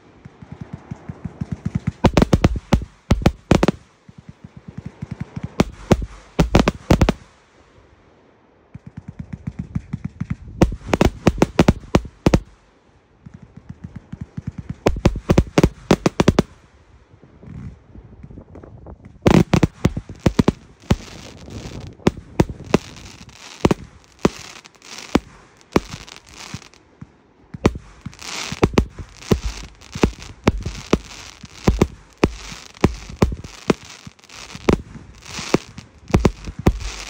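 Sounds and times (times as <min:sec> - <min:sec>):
firework cake bangs: 0:00.0 - 0:07.3, 0:08.8 - 0:12.6, 0:13.3 - 0:16.6, 0:19.3 - 0:26.8, 0:27.6 - 0:37.0.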